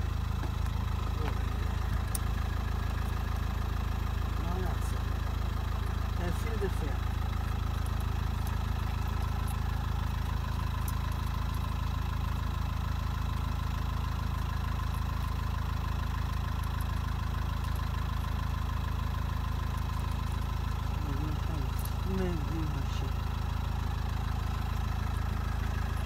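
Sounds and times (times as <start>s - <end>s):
engine idling hum: 0.0s - 26.0s.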